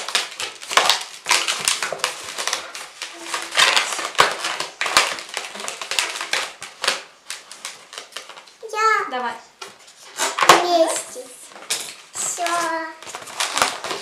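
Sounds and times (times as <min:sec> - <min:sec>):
balloons squeaking and rubbing: 0:00.0 - 0:09.0, 0:09.9 - 0:14.0.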